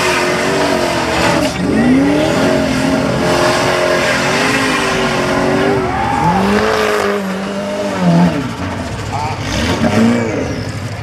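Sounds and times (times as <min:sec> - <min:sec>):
buggy engine revving hard: 0:00.0 - 0:11.0.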